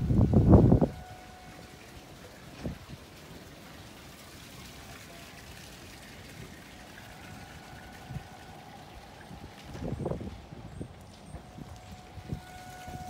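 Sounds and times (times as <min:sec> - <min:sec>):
light wind: 0:00.0 - 0:13.0
water: 0:00.0 - 0:13.0.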